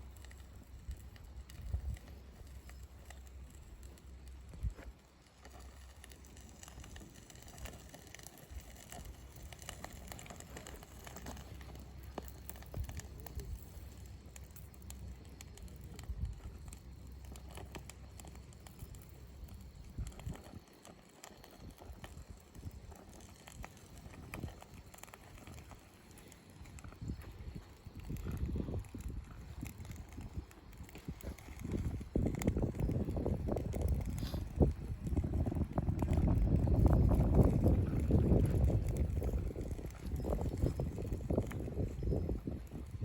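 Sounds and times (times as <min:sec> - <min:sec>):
campfire crackling and popping: 0:00.0 - 0:43.0
low steady fire rumble: 0:00.0 - 0:43.0.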